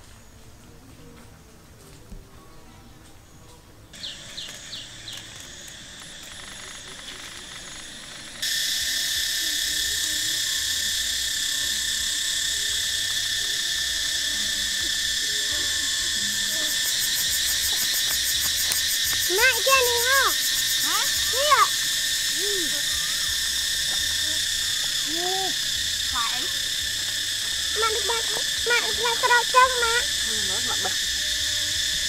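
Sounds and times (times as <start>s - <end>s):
insects buzzing drone: 0.0s - 32.0s
insect chirps: 3.9s - 32.0s.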